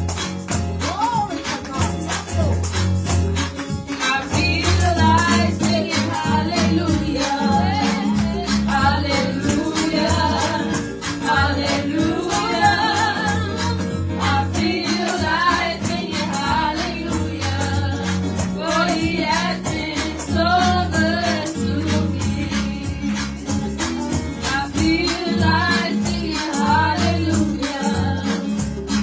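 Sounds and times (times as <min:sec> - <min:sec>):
instrumental accompaniment: 0:00.0 - 0:29.0
women singing gospel: 0:04.0 - 0:23.6, 0:24.4 - 0:29.0.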